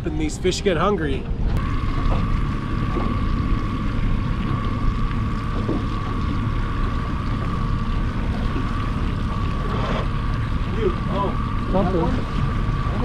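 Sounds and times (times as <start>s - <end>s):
outboard motor running: 0.0s - 13.0s
steady high whine: 0.0s - 13.0s
water washing along hull: 0.0s - 13.0s.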